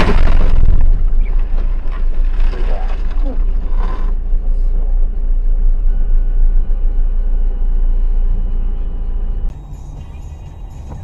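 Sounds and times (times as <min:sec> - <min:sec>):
road noise: 0:00.0 - 0:11.0
vehicle engine rumble: 0:00.0 - 0:11.0
faint steady tones: 0:00.8 - 0:11.0.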